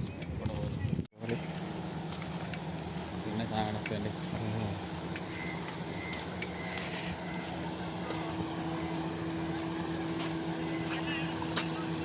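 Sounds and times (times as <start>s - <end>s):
motor humming: 0.1s - 12.0s.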